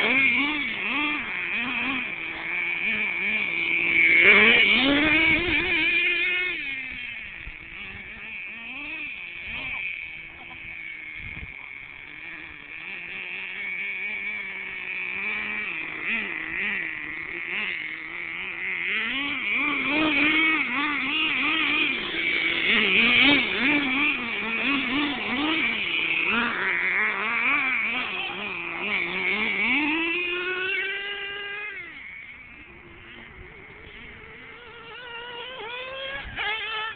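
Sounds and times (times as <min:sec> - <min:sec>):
small nitro engine revving: 0:00.0 - 0:36.9.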